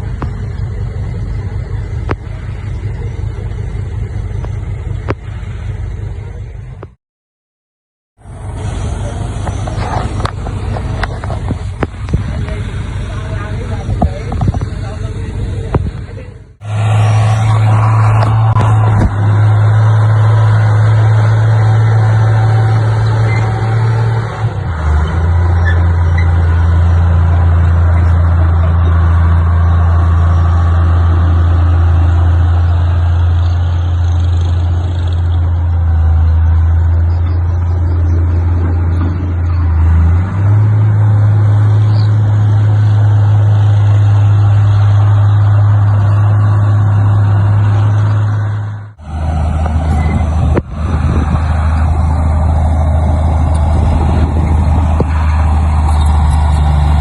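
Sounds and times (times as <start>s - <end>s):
heavy diesel engine running: 0.0s - 7.0s, 8.2s - 57.0s.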